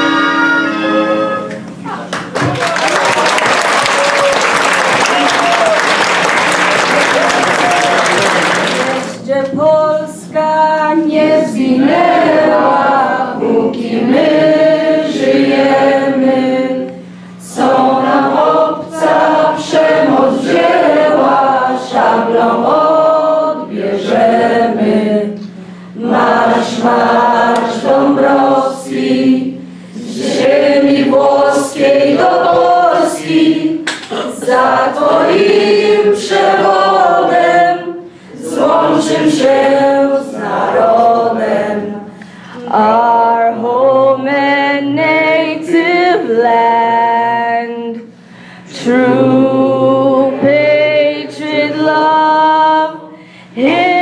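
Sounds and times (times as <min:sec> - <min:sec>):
group singing unaccompanied: 0:00.0 - 0:01.6, 0:09.0 - 0:48.1, 0:48.7 - 0:54.0
steady low hum: 0:05.9 - 0:54.0.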